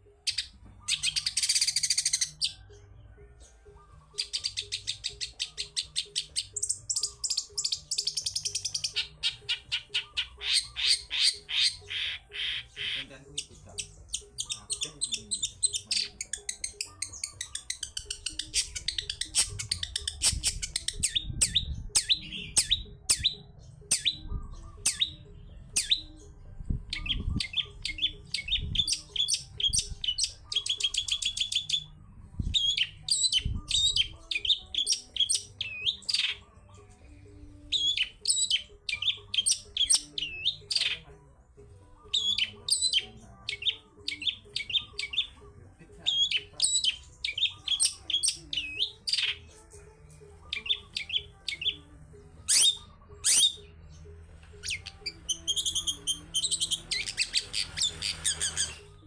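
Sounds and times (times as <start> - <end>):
shrike singing chips and trills: 0.1 - 41.1, 41.9 - 45.4, 46.0 - 49.8, 50.4 - 59.0.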